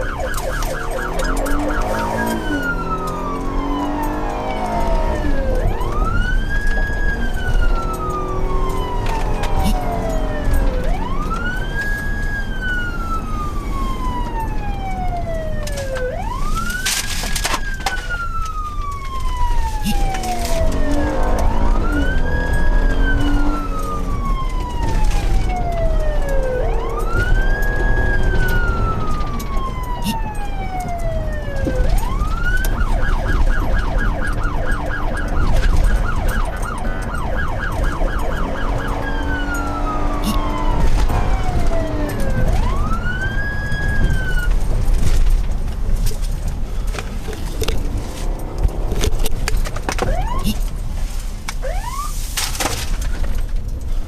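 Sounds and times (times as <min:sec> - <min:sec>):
low vehicle rumble: 0:00.0 - 0:54.0
police siren wailing and yelping: 0:00.0 - 0:54.0.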